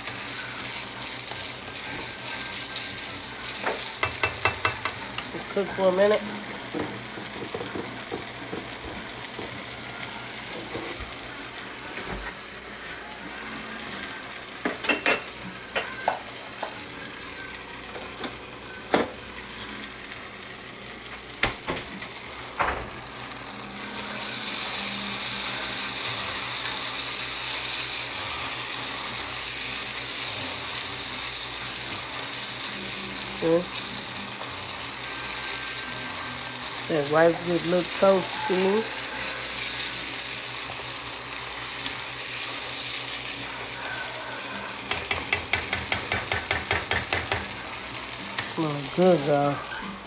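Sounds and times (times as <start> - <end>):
rice and vegetables sizzling: 0.0 - 50.0.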